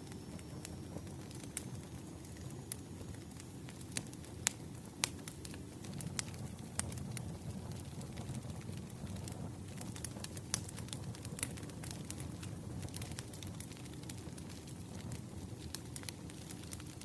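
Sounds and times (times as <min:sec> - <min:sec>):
wood fire pops and snaps: 0:00.1 - 0:17.0.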